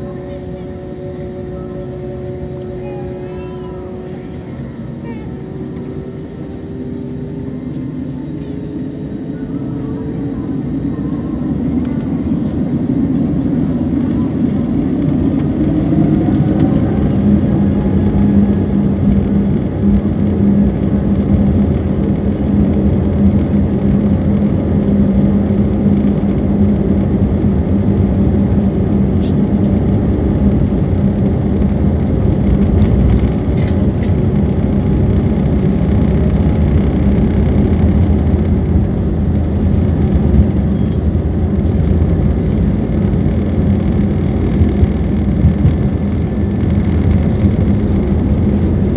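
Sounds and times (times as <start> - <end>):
jet engines rumbling in cabin: 0.0 - 48.9.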